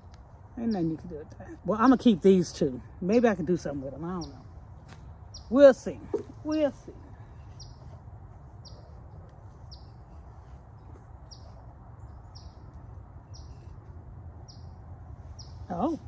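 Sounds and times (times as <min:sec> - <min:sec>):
faint low outdoor rumble: 0:00.0 - 0:16.0.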